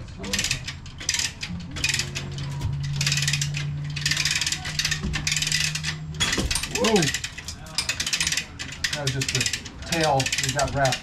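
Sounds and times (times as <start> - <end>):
lever hoist ratcheting clicks: 0.2 - 11.0.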